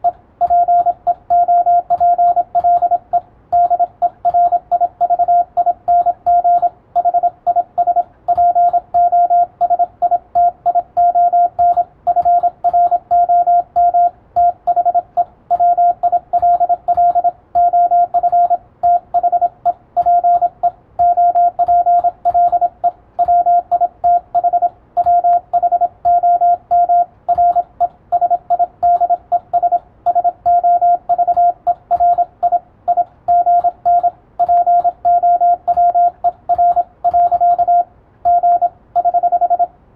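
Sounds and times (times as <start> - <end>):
morse code tone: 0.0 - 39.7.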